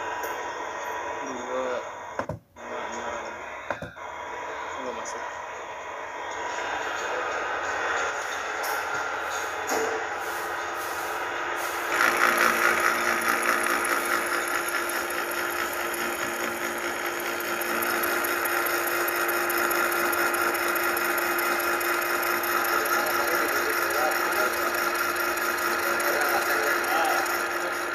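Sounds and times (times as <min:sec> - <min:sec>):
workshop machinery humming: 0:00.0 - 0:27.9.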